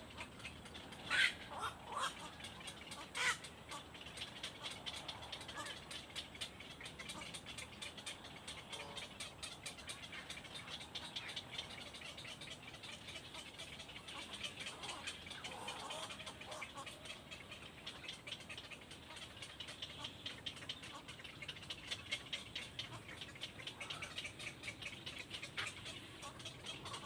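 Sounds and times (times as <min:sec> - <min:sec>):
lower wavering bird calls: 0:00.0 - 0:27.0
small birds chirping: 0:00.0 - 0:27.0.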